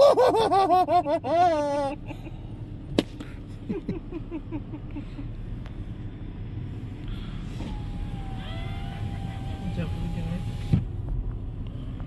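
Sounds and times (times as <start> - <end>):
car wash rumbling: 0.0 - 12.0.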